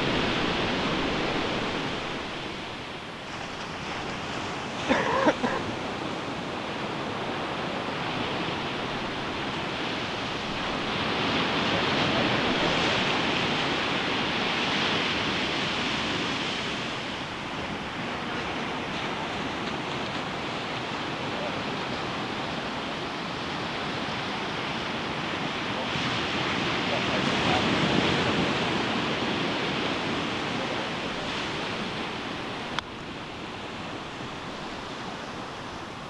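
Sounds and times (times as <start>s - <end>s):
ocean surf on beach: 0.0s - 36.0s.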